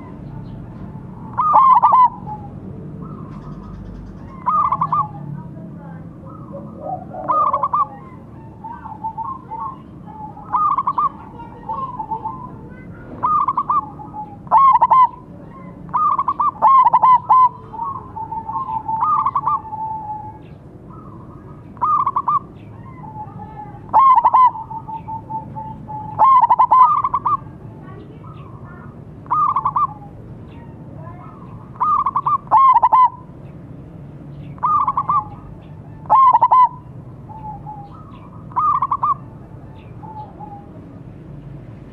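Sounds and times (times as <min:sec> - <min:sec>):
doves cooing: 0:00.0 - 0:33.5, 0:34.4 - 0:41.1.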